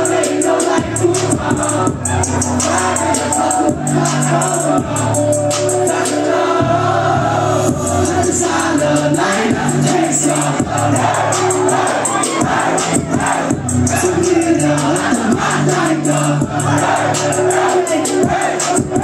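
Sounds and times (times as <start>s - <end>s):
music with steady beat and bass: 0.0s - 19.0s
voices singing: 0.0s - 19.0s.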